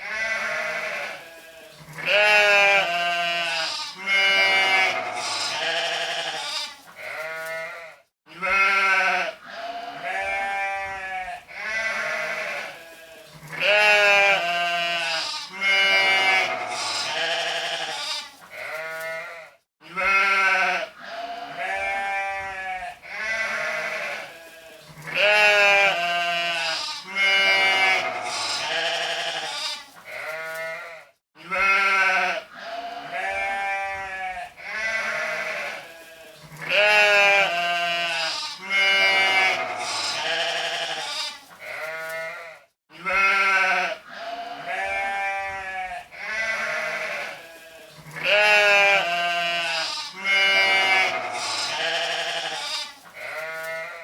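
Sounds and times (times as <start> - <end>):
sheep bleating: 0.0 - 54.0.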